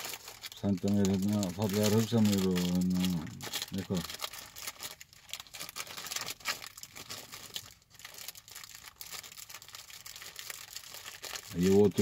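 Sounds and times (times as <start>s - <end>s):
food wrapper crinkling: 0.0s - 12.0s.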